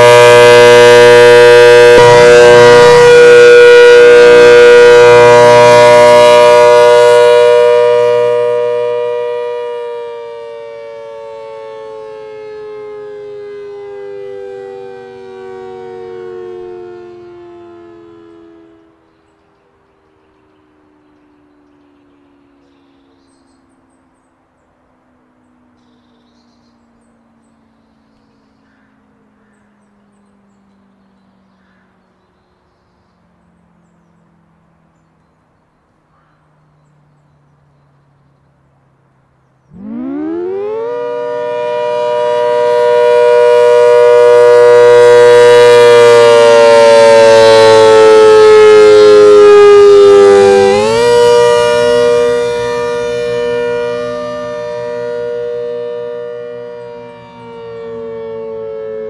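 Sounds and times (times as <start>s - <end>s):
outdoor warning siren wailing: 0.0s - 32.0s, 39.6s - 59.0s.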